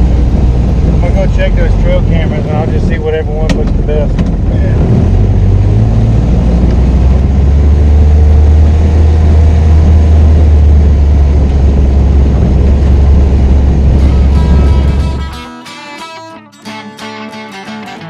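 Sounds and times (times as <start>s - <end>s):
vehicle engine humming: 0.0s - 16.6s.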